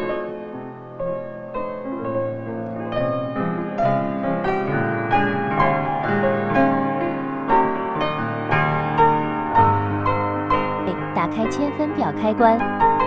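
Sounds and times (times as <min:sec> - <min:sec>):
soft slow piano music: 0:00.0 - 0:13.0.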